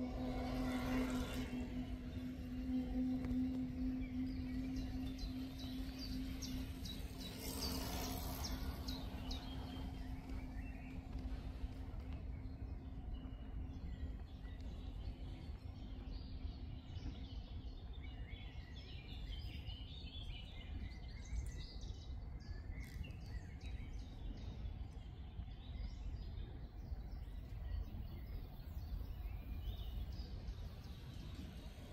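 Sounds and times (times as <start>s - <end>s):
low outdoor rumble: 0.0s - 31.9s
small birds chirping: 0.0s - 31.9s.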